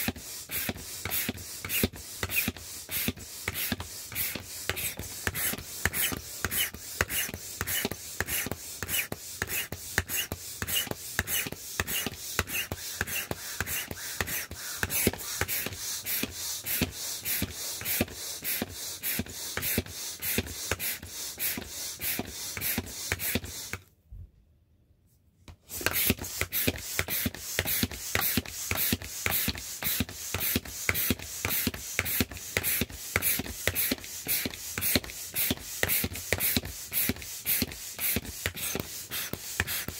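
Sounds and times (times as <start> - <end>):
manual air pump puffing: 0.0 - 23.9, 25.5 - 39.9.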